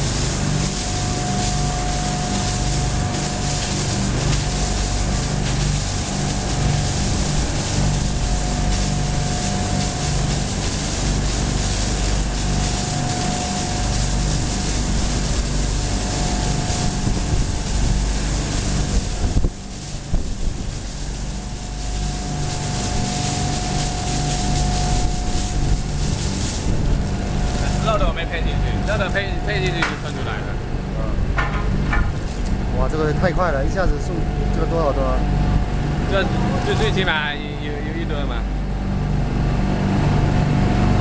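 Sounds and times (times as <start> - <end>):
ice machine motor hum and whine: 0.0 - 41.0.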